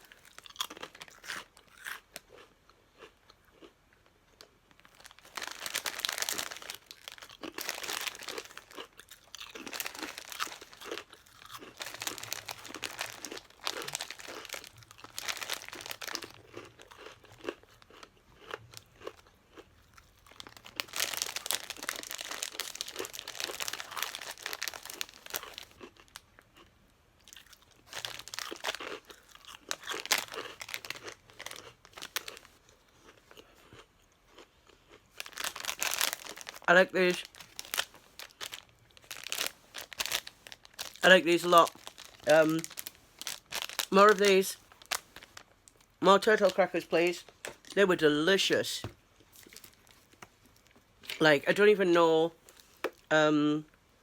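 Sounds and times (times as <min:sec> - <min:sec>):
crackers being chewed: 0:00.0 - 0:46.6, 0:49.2 - 0:51.2.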